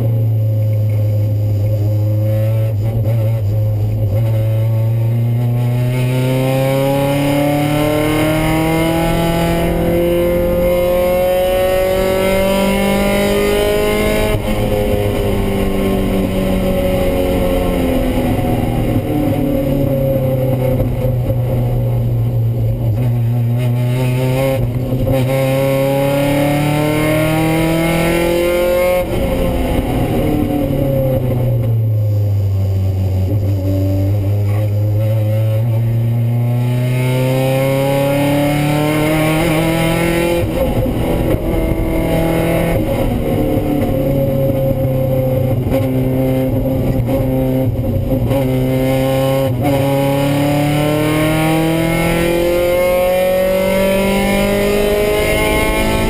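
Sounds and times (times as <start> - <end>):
race car engine accelerating: 0.9 - 56.0.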